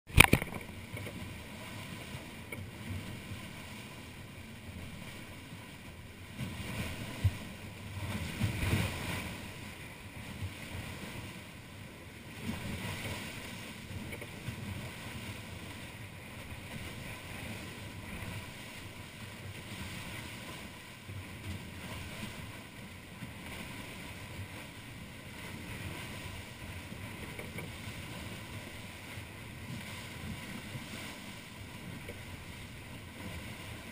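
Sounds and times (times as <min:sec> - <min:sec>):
water splashing along hulls: 0:00.1 - 0:33.9.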